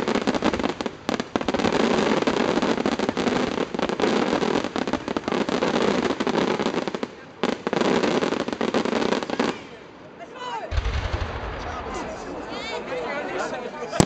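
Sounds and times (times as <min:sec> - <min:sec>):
fireworks crackling and popping: 0:00.0 - 0:12.9.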